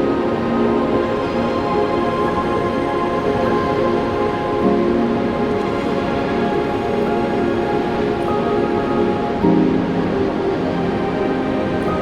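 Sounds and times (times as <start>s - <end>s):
ambient music held notes: 0.0s - 12.0s
steady rushing noise: 0.0s - 12.0s.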